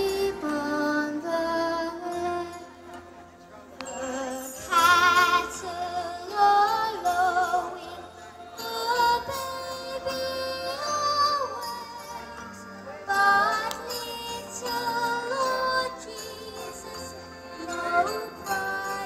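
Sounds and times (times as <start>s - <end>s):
musical accompaniment: 0.0s - 19.0s.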